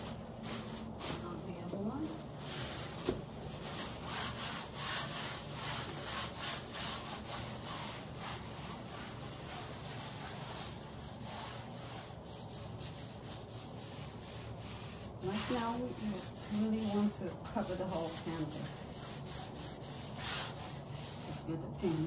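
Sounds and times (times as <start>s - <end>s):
gloved hand rubbing paint on canvas: 0.0s - 22.0s.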